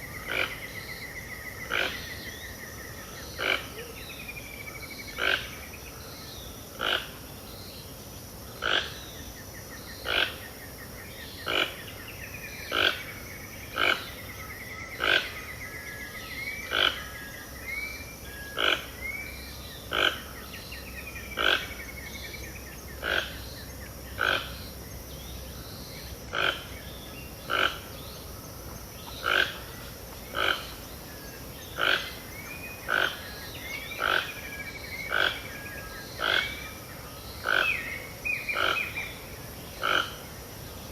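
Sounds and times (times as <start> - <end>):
high insect hiss: 0.0 - 40.9.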